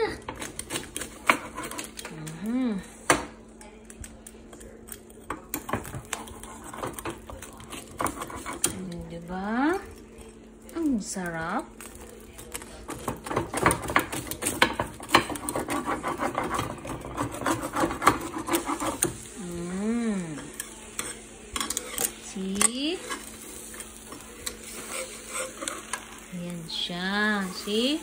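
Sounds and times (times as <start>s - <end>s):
pizza cutter crunching crust: 0.1s - 2.6s, 4.0s - 10.8s, 11.8s - 22.2s, 23.0s - 26.3s.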